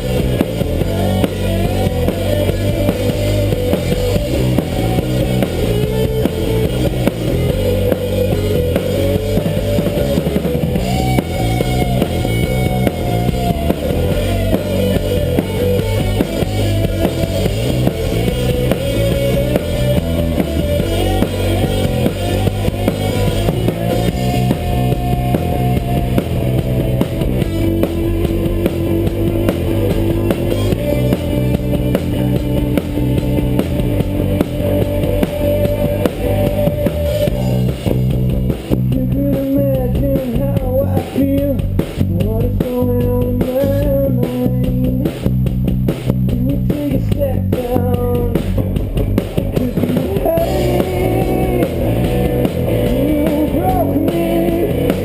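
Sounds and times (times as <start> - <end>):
drum kit beat: 0.0 - 55.0
rock band playing: 0.0 - 55.0.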